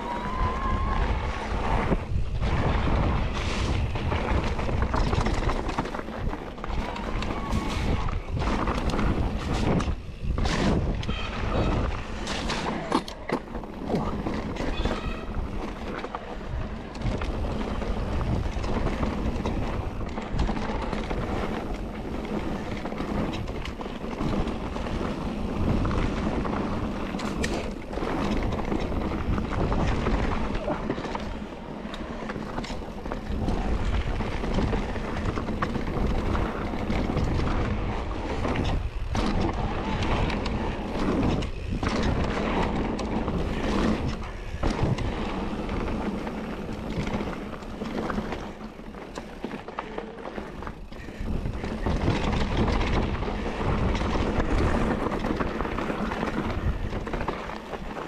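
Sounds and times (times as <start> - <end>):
bike rattling: 0.0 - 58.0
bike tyre roar: 0.0 - 58.0
wind buffeting microphone: 0.0 - 58.0.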